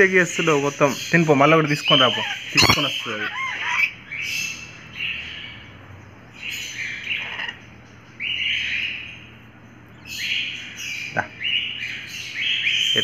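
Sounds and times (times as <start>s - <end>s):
lorikeets rasping calls: 0.0s - 13.0s.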